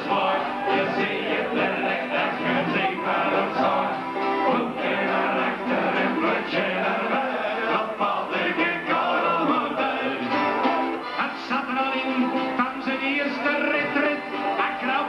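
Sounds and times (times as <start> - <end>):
guitar: 0.0 - 15.0
person singing: 0.0 - 15.0.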